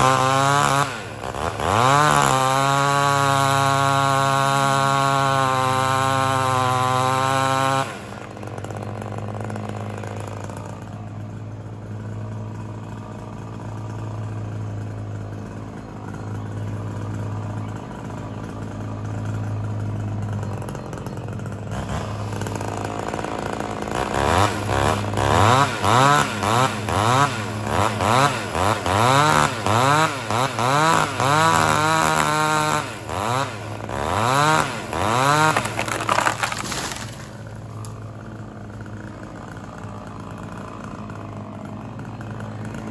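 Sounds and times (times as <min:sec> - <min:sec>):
chainsaw revving and idling: 0:00.0 - 0:42.9.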